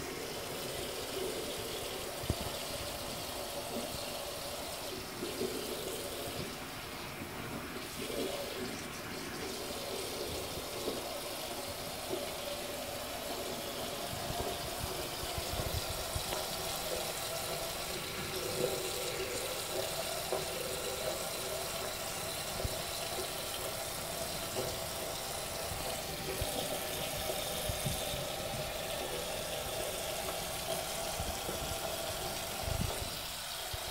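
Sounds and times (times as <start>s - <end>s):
tap water running into drain: 0.0s - 33.9s.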